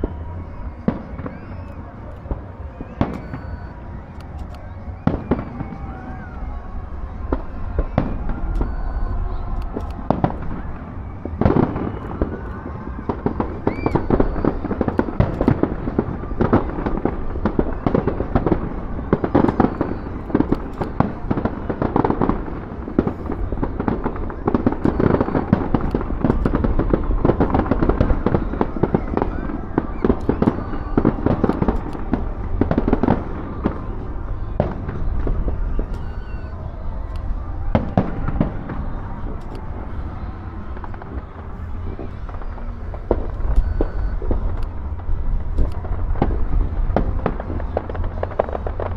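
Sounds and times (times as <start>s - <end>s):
firework whistle: 0.0s - 48.9s
fireworks bangs and crackling: 0.0s - 48.9s.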